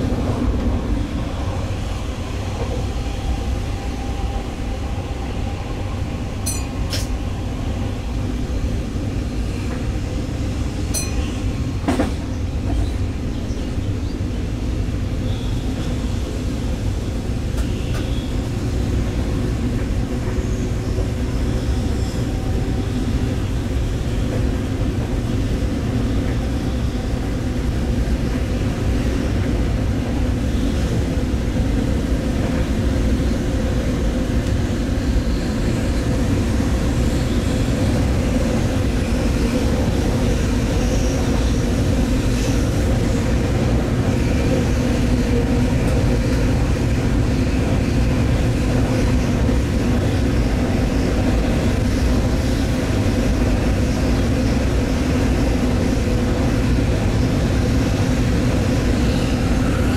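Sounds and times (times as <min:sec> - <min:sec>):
train engine and wheels rumbling: 0:00.0 - 0:59.9.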